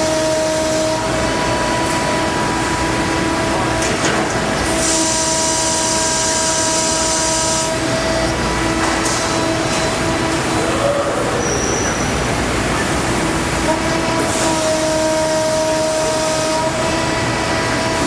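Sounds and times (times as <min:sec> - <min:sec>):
laser cutter humming: 0:00.0 - 0:18.0.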